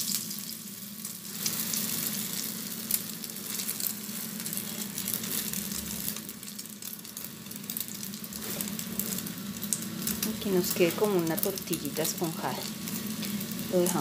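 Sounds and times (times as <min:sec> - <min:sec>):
egg sizzling in hot oil: 0:00.0 - 0:14.0.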